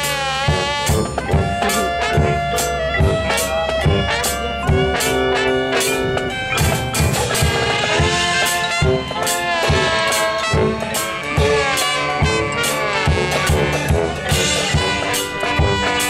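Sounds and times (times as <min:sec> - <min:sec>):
brass horns playing: 0:00.0 - 0:16.0.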